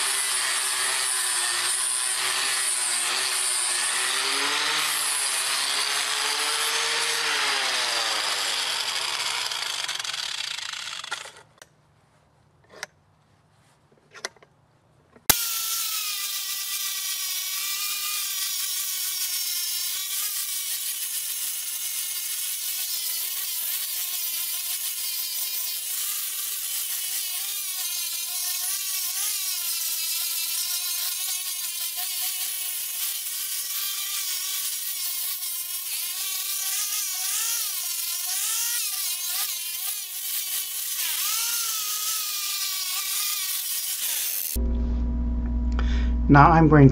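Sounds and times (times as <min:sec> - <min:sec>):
angle grinder sanding wood: 0:00.0 - 0:11.4, 0:15.3 - 0:44.6.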